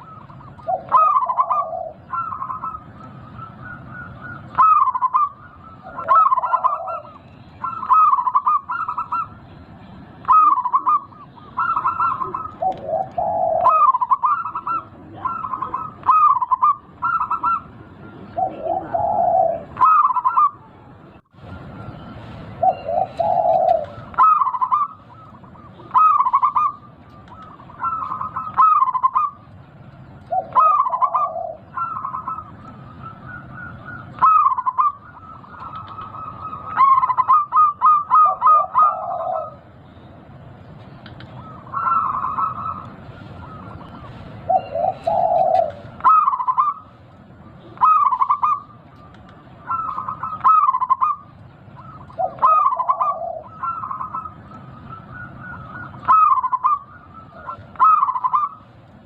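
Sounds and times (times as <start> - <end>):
dove cooing: 0.0 - 9.6, 10.2 - 40.2, 40.8 - 58.8.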